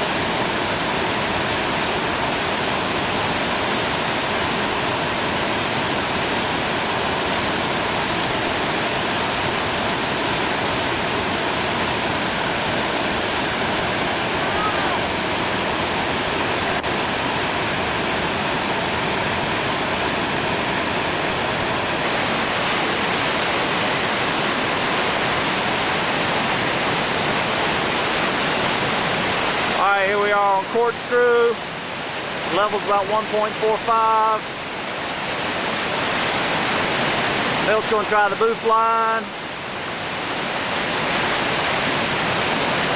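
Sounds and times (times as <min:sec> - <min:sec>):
river rapids rushing: 0:00.0 - 0:42.9.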